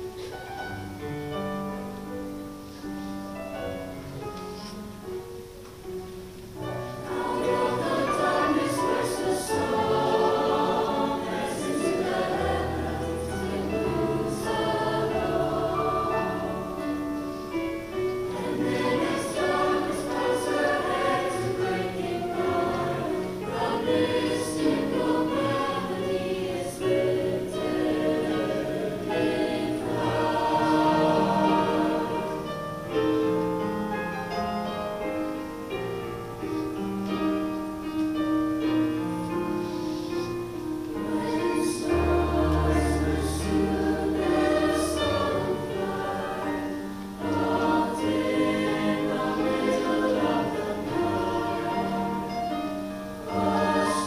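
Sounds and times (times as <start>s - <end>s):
choir singing in parts: 6.6s - 35.0s, 38.8s - 54.0s.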